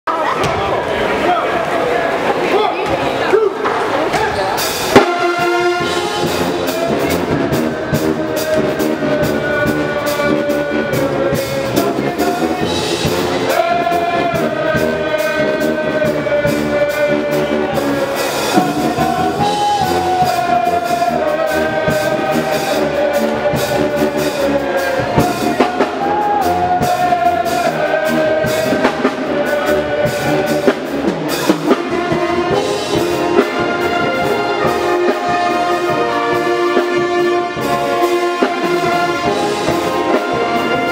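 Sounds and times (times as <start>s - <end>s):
brass pep band playing: 2.4s - 40.9s.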